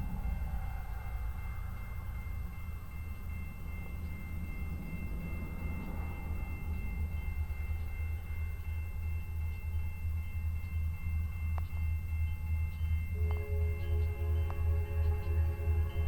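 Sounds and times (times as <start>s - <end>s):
crossing warning bell ringing: 0.0s - 16.0s.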